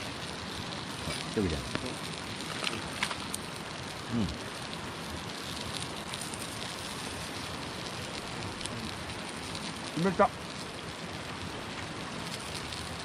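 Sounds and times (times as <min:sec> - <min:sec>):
fire crackling: 0:00.0 - 0:13.0
food sizzling on grill: 0:00.0 - 0:13.0.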